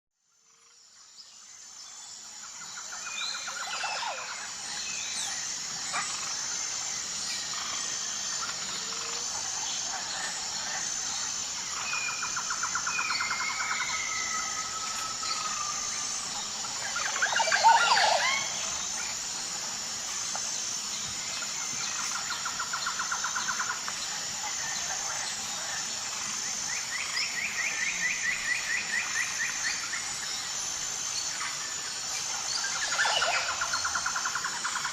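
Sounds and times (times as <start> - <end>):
pulsing high-pitched buzz: 0.2 - 34.9
tropical forest birds calling: 0.5 - 34.9.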